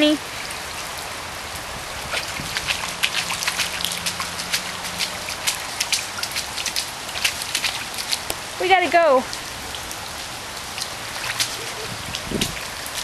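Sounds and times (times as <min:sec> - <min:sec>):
pouring rain hissing: 0:00.0 - 0:13.0.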